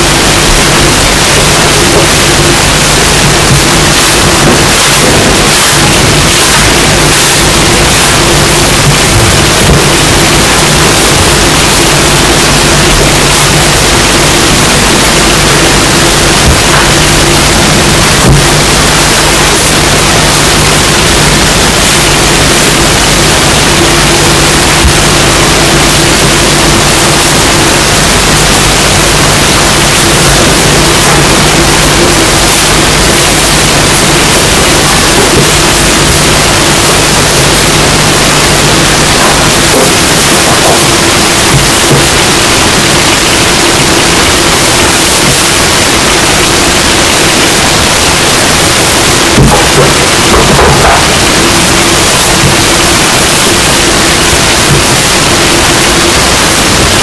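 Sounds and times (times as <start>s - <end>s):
low steady hum: 0.0s - 57.0s
static-like hiss: 0.0s - 57.0s.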